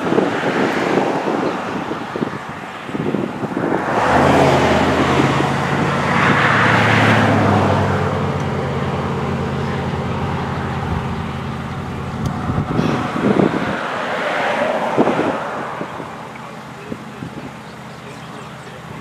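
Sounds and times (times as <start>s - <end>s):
wind buffeting microphone: 0.0s - 19.0s
vehicle engine idling: 1.0s - 19.0s.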